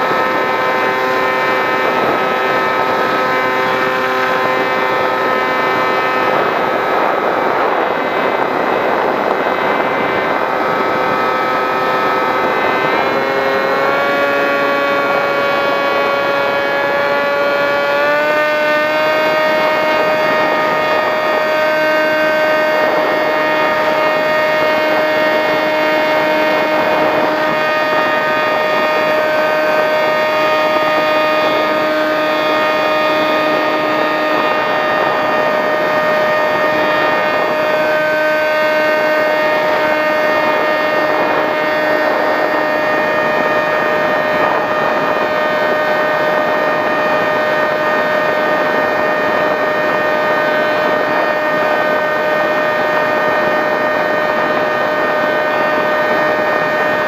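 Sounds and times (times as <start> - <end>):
model plane motor whining: 0.0 - 57.0.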